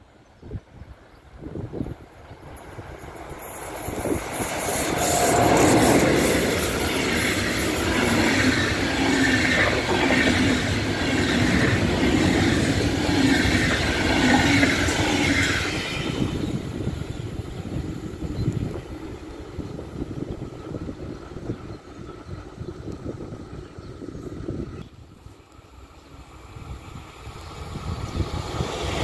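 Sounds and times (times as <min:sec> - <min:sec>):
train wheels rolling on rails: 0:01.0 - 0:24.8, 0:25.4 - 0:29.0.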